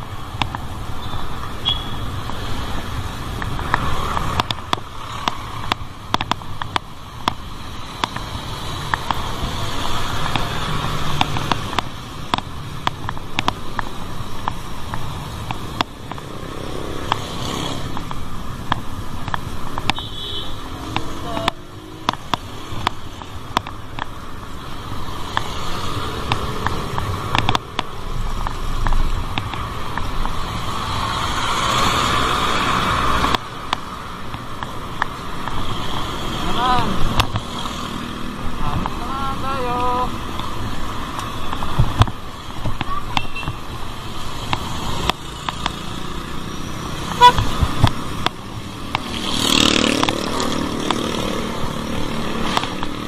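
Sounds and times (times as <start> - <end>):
passing road traffic: 0.0 - 53.0
bicycle clicks and knocks: 1.6 - 20.2, 20.8 - 36.2, 37.0 - 38.0, 40.2 - 53.0.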